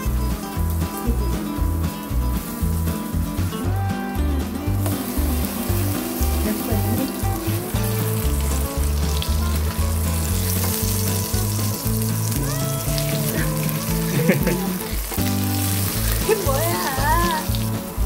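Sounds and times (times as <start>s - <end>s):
background music: 0.0s - 18.0s
batter sizzling in hot oil: 0.0s - 18.0s.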